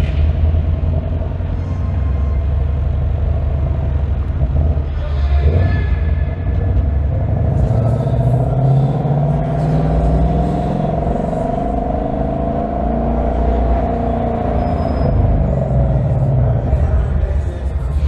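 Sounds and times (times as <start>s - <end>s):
car engine rumbling while driving: 0.0s - 18.0s
tyre and road noise: 0.0s - 18.0s.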